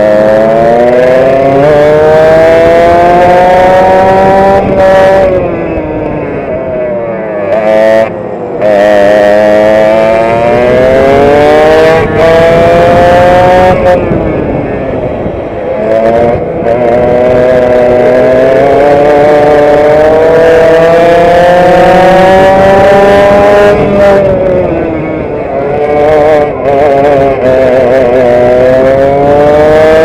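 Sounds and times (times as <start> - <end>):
kart two-stroke engine revving: 0.0 - 30.0.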